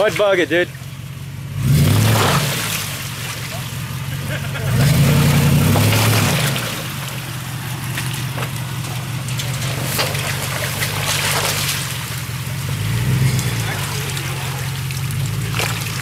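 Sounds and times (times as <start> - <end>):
suv engine revving: 0.0 - 16.0
tyres churning through mud: 0.0 - 16.0
water sloshing and splashing: 2.0 - 16.0.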